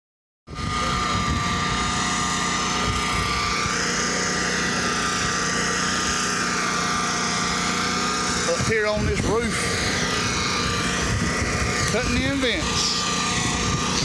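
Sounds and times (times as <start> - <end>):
drone propellers whirring: 0.5 - 14.0.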